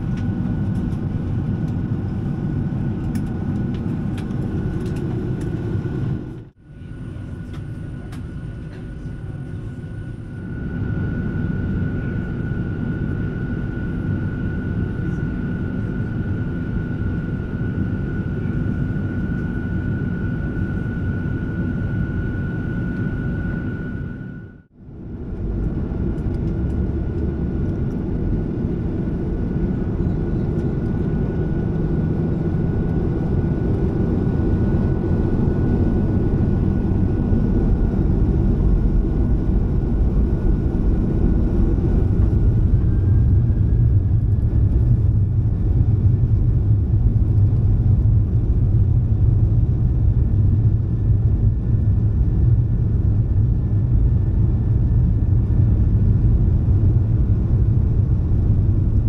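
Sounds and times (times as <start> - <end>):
jet engine rumble and whine: 0.0 - 59.0.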